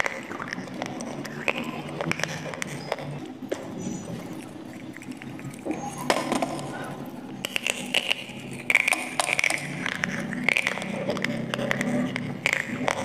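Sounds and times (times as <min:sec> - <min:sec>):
dry clay crunching when chewed: 0:00.0 - 0:13.0.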